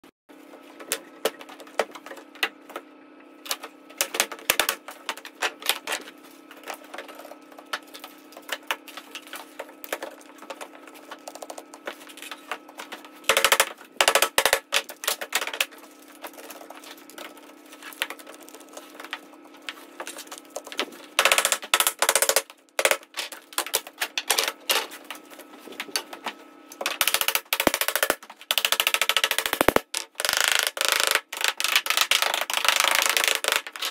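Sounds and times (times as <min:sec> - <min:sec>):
steady hum: 0:00.3 - 0:30.2.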